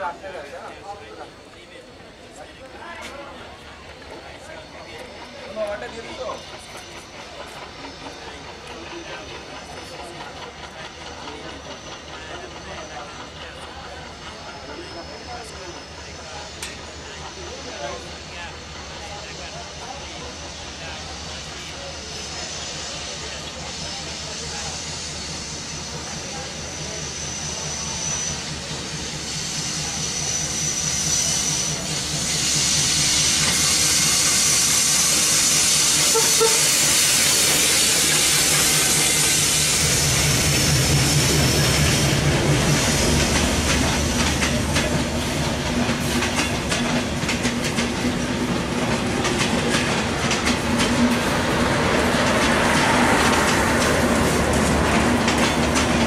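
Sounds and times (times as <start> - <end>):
clickety-clack of train wheels: 0.0 - 56.0
diesel locomotive engine drone: 0.0 - 56.0
rail hiss: 0.0 - 56.0.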